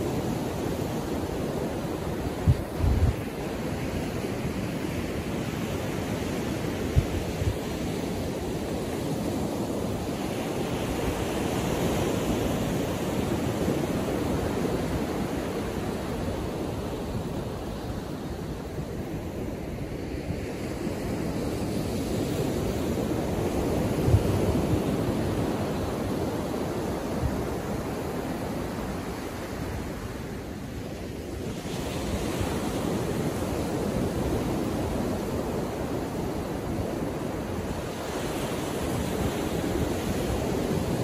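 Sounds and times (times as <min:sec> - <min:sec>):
waves breaking on beach: 0:00.0 - 0:41.0.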